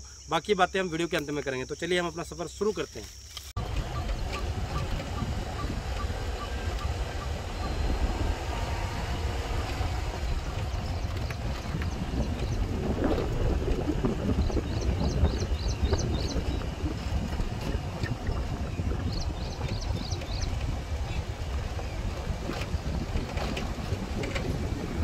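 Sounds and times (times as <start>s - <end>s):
wind buffeting microphone: 3.6s - 25.0s
bird chirping: 3.7s - 23.8s.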